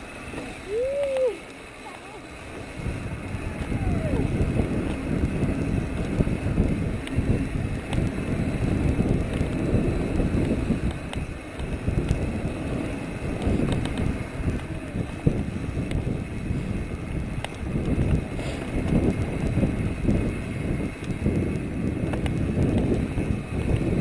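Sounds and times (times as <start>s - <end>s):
tyres rumbling on dirt: 0.0s - 24.0s
wind buffeting microphone: 2.4s - 24.0s
bike clicks and rattles: 3.6s - 24.0s.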